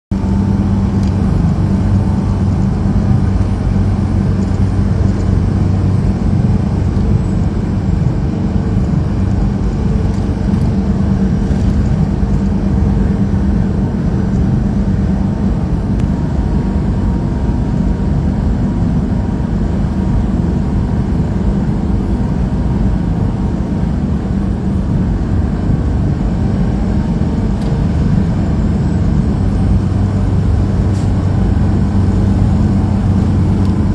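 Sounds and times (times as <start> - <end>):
truck engine droning: 0.1 - 33.9.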